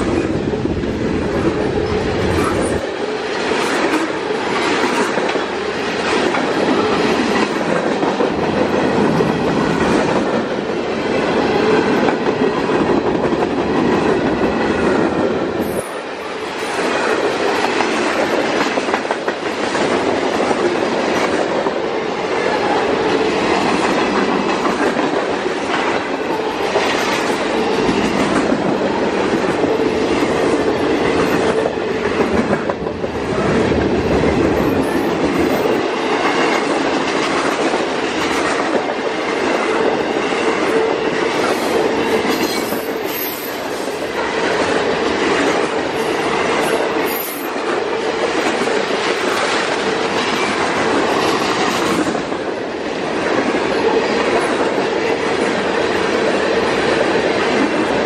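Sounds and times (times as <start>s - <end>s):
freight train wheels clattering on rails: 0.0s - 58.0s.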